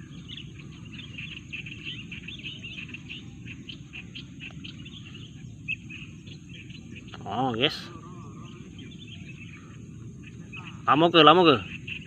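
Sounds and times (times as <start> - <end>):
high wildlife chirps: 0.0 - 12.0
steady low rumble: 0.0 - 12.0.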